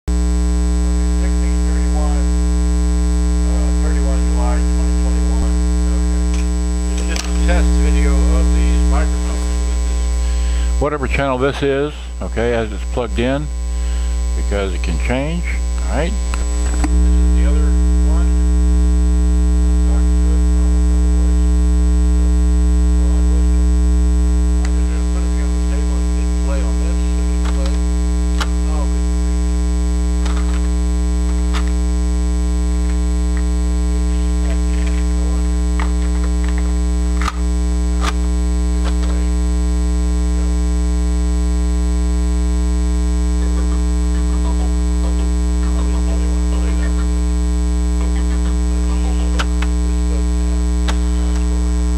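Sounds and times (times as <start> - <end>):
electrical mains hum: 0.0 - 51.9
faint high whine: 0.0 - 51.9.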